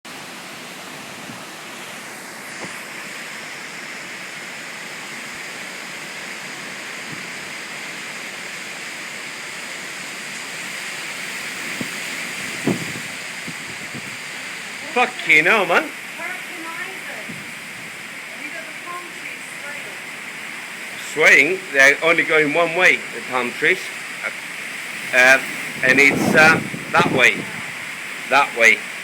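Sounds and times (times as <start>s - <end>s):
heavy rain and wind: 0.0s - 29.0s.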